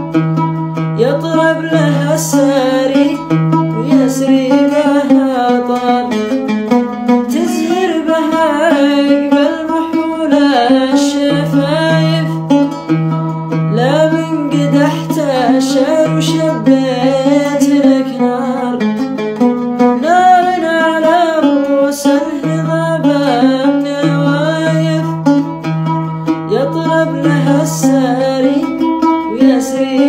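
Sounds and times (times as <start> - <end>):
oud strings plucked: 0.0 - 30.0
man singing: 1.0 - 25.6, 26.4 - 30.0.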